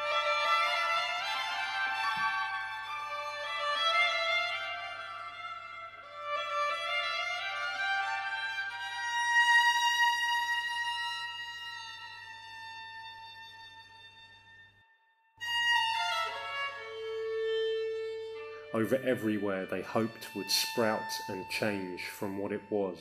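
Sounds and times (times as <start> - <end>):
violin playing slow notes: 0.0 - 23.0.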